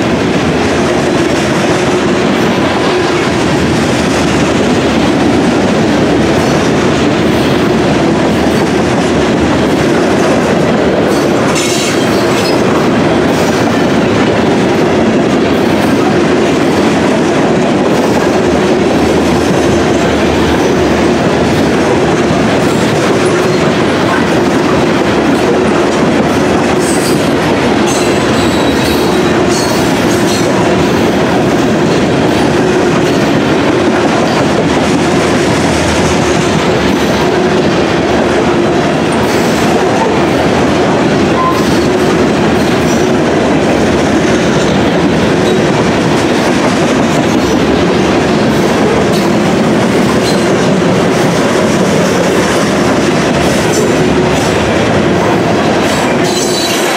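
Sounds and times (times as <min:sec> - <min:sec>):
freight train wheels on rails: 0:00.0 - 0:56.9.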